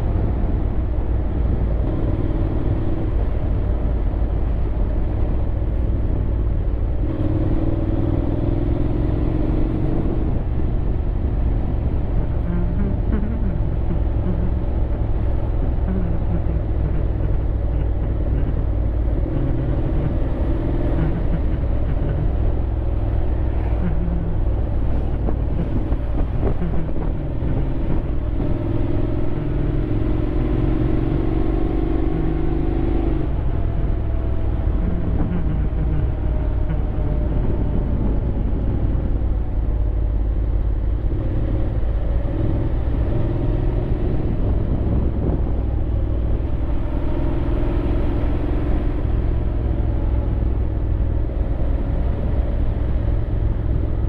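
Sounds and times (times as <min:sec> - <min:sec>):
motorcycle engine running: 0:00.0 - 0:54.0
wind rumble on microphone: 0:09.3 - 0:54.0.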